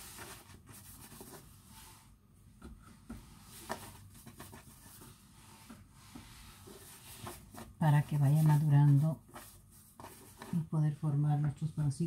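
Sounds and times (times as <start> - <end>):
hands rubbing bread dough: 0.0 - 10.8.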